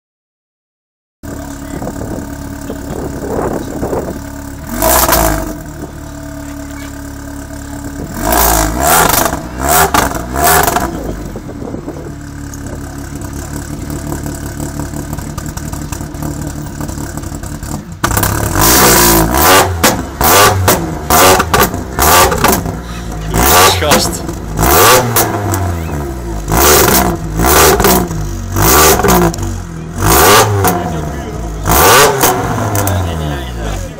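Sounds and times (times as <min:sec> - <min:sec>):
car engine idling and revving: 0:01.2 - 0:33.9
loud sharp engine revs: 0:01.3 - 0:33.9.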